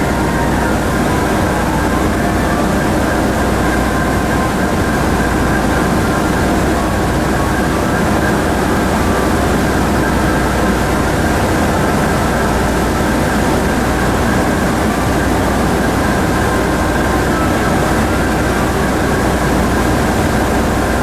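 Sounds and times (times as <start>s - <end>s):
constant rushing noise: 0.0s - 21.0s
ferry engines droning: 0.0s - 21.0s.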